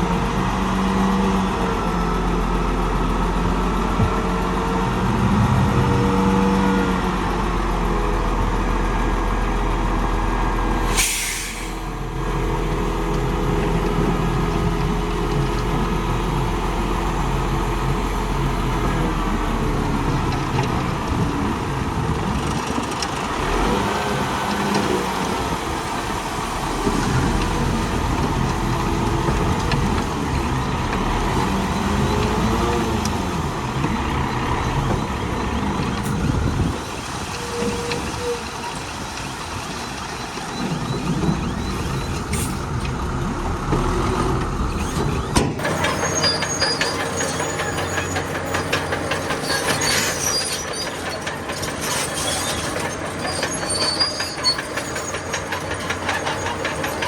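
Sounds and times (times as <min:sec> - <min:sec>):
diesel engines under load: 0:00.0 - 0:57.0
steel tracks clattering and squealing: 0:10.7 - 0:57.0.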